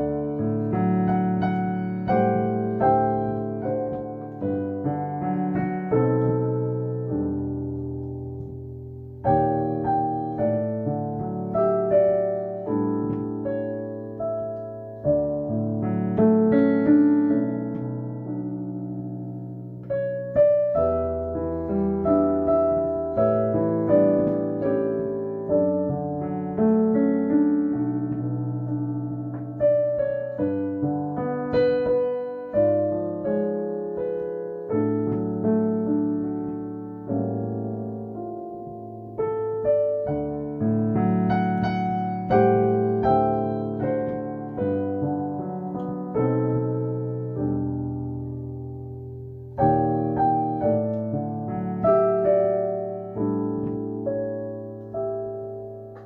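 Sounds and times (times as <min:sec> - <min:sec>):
piano playing slow hymn: 0:00.0 - 0:56.0.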